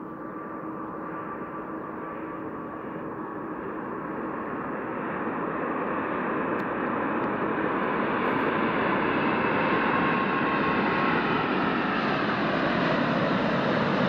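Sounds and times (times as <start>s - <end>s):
jet airliner engine rushing: 0.0s - 14.0s.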